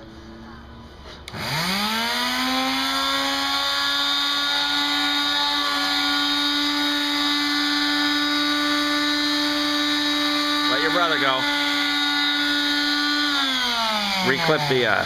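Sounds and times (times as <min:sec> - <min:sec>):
electric sander motor whine: 0:01.3 - 0:15.0.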